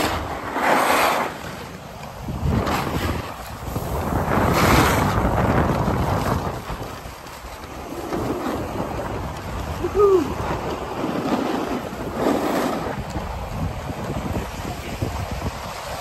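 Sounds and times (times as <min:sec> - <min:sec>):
skis scraping over snow: 0:00.0 - 0:16.0
wind buffeting microphone: 0:01.3 - 0:16.0.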